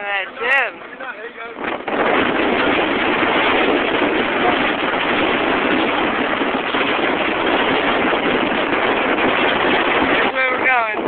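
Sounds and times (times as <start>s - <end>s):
strong wind on microphone: 0.0s - 11.0s.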